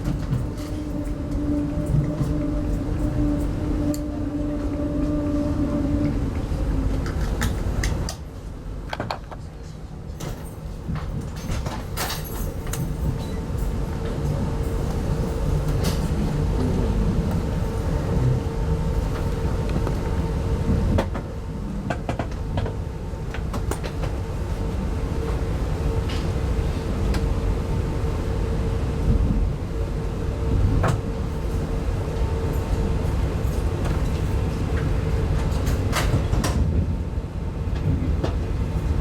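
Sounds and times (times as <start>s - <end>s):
train coach running rumble: 0.0s - 39.0s.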